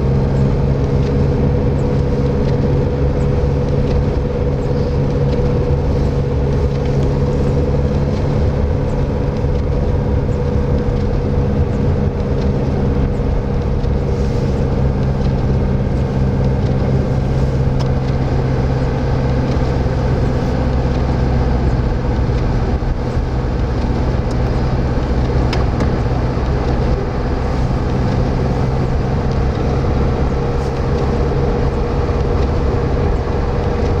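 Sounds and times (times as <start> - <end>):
road and wind noise: 0.0 - 34.0
vehicle engine humming: 0.0 - 34.0.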